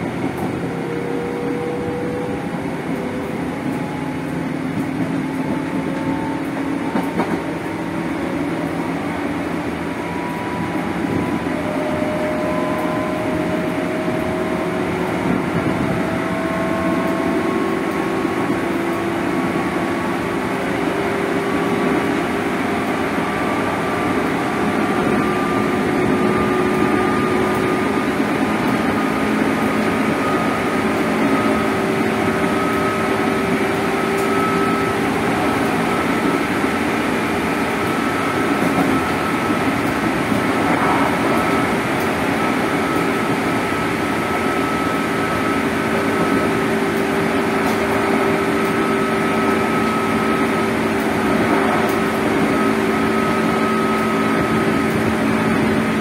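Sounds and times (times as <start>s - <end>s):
train traction motors whining: 0.0s - 56.0s
wheels rumbling on rail: 0.0s - 56.0s.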